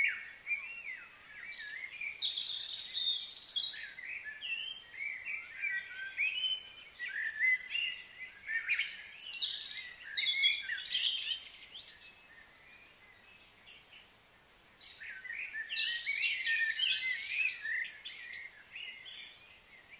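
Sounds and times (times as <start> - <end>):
small birds chirping and calling: 0.0 - 19.9.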